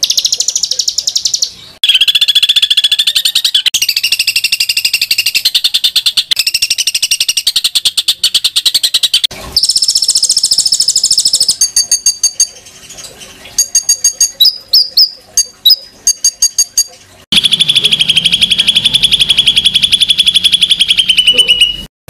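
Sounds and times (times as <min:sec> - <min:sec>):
sharp bird chirps: 0:00.0 - 0:12.5, 0:13.6 - 0:21.9
songbird trilling: 0:00.0 - 0:12.5, 0:13.6 - 0:21.8.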